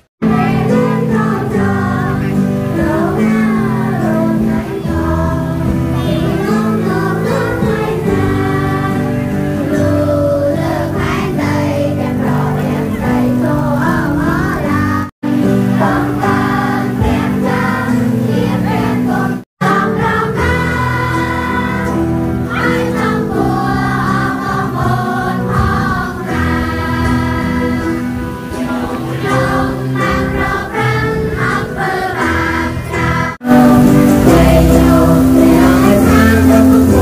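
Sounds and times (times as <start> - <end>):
children singing a hymn: 0.0 - 37.0.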